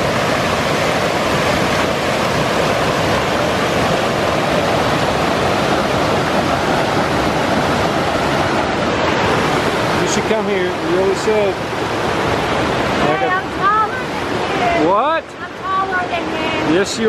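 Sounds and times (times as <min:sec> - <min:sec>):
mountain river rushing: 0:00.0 - 0:17.0.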